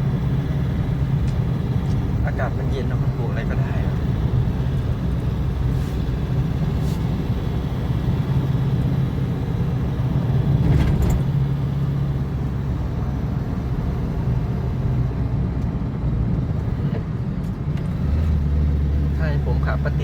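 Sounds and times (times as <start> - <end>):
car engine humming: 0.0 - 20.0
road noise: 0.0 - 20.0.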